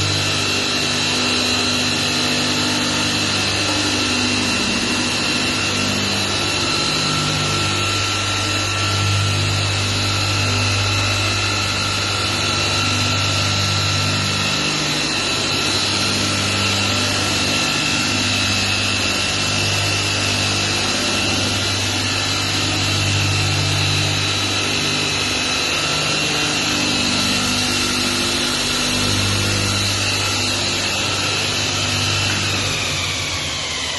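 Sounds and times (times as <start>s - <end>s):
belt grinder whining and rasping: 0.0s - 33.9s
pulsing low hum: 0.0s - 33.9s.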